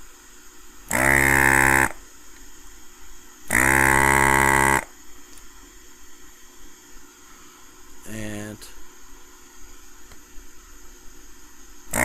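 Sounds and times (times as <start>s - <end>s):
vacuum pump buzzing: 0.0s - 12.0s.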